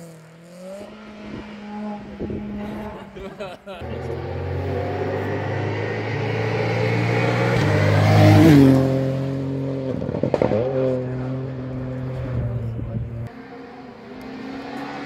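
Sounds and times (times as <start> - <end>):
rally car passing at full throttle: 0.0 - 15.0.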